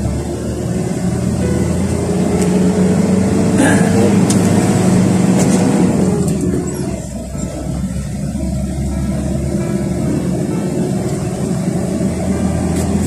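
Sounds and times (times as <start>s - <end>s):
truck engine running: 0.0s - 13.0s
tyre and road rumble: 0.0s - 13.0s.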